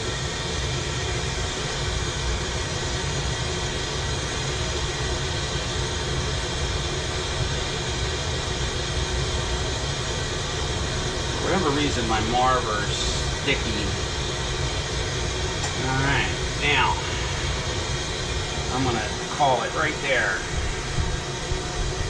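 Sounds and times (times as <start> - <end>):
torch burning with rushing hiss: 0.0 - 22.0.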